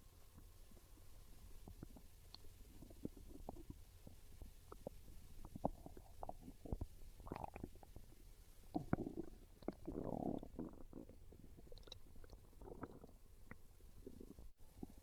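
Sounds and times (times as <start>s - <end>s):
stomach growling and gurgling: 0.4s - 15.0s.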